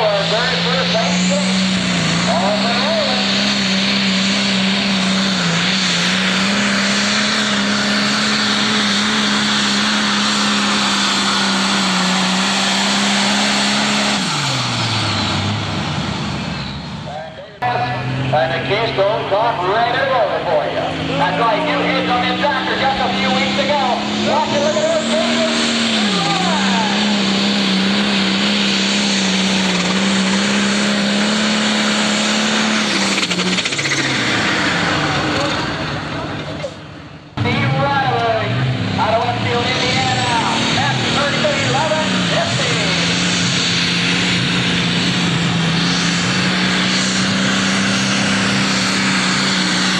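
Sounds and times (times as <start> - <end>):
diesel engine at full throttle: 0.0 - 49.9.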